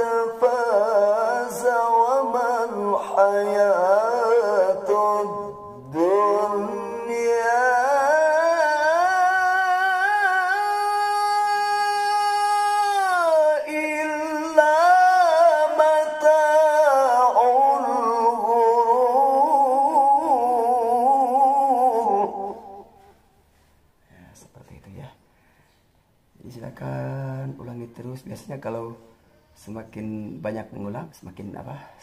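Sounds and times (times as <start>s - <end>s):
man reciting melodically: 0.0s - 23.2s, 26.4s - 32.0s.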